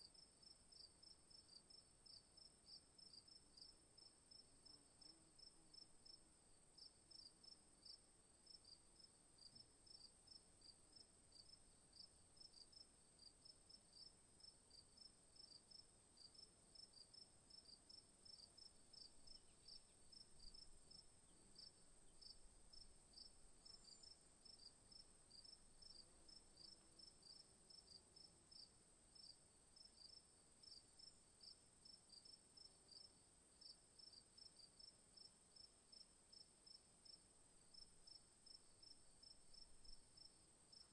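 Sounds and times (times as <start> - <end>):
crickets chirping: 7.1 - 40.9.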